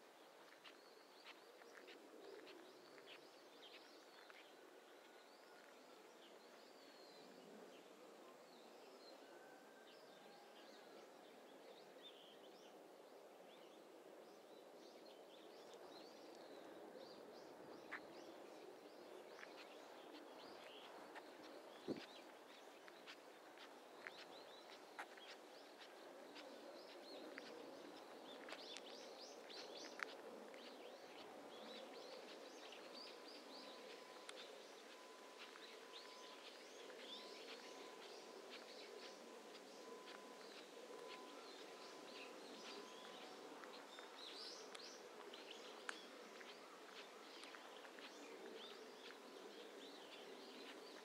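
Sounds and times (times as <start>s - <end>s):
small birds chirping: 0.0s - 8.8s, 13.5s - 51.0s.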